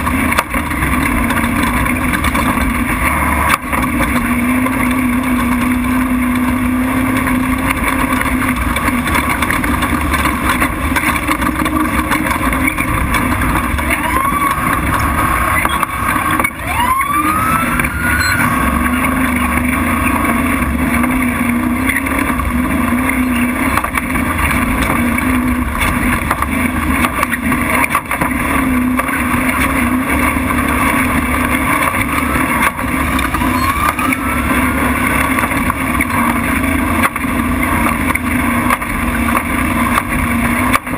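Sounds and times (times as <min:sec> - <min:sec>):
road and wind noise: 0:00.0 - 0:40.9
truck engine running hard: 0:00.0 - 0:40.9.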